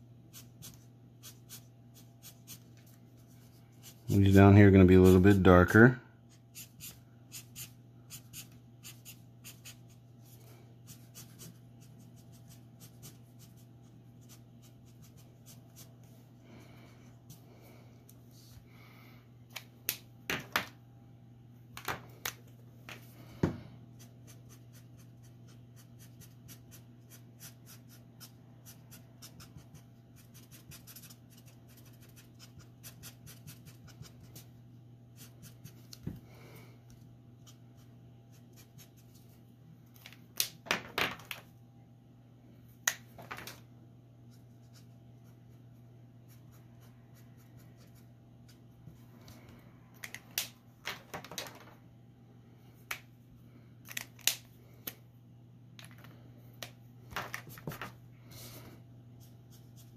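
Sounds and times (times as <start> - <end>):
steady low hum: 0.0 - 51.0, 51.6 - 59.9.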